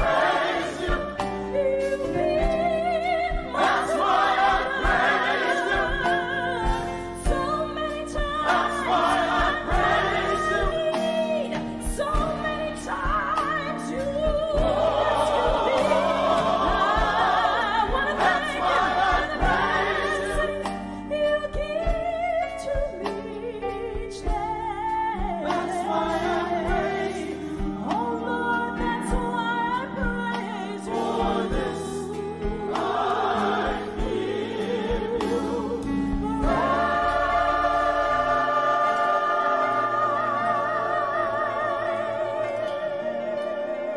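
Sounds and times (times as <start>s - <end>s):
gospel choir singing: 0.0s - 43.9s.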